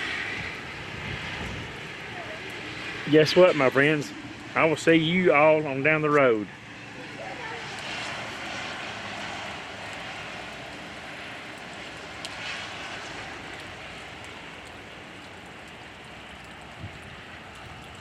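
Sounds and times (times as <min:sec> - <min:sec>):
rain falling: 0:00.0 - 0:18.0
wind blowing: 0:00.0 - 0:18.0.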